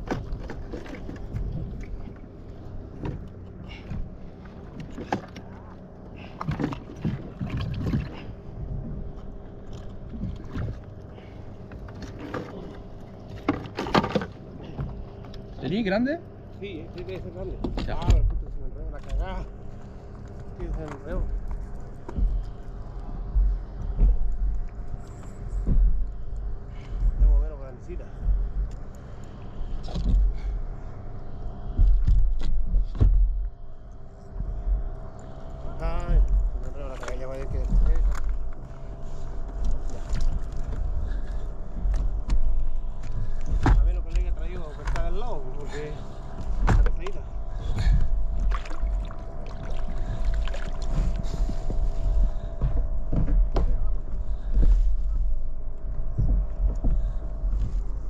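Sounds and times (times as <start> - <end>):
faint steady hum: 0.0 - 58.0
water rumbling against a kayak: 0.0 - 58.0
wind: 0.0 - 58.0.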